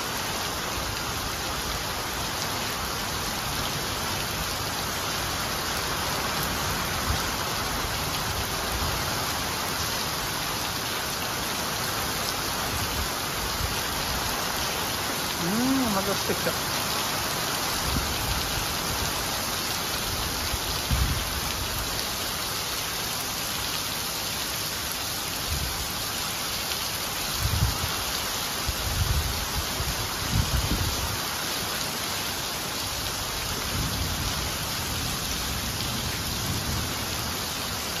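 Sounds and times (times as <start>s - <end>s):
heavy rain on pavement: 0.0s - 38.0s.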